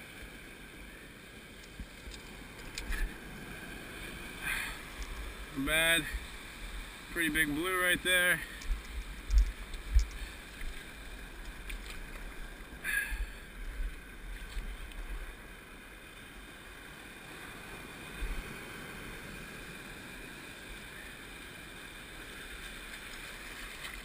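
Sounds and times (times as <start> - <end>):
surf washing around rocks: 0.0 - 24.0.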